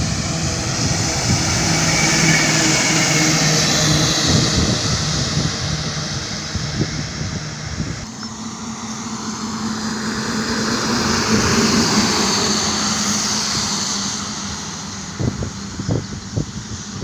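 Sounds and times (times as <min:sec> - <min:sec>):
road and wind noise: 0:00.0 - 0:17.0
vehicle engine hum: 0:00.0 - 0:17.0.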